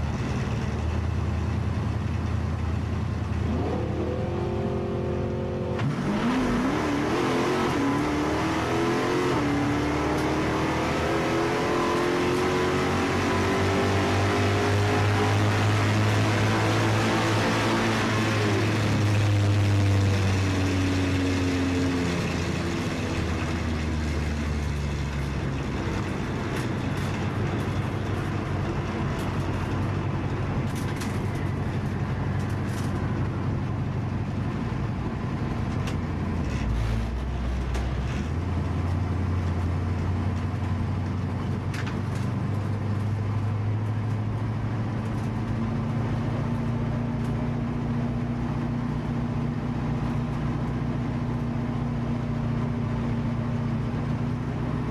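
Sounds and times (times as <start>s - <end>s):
car engine running at low revs: 0.0s - 54.9s.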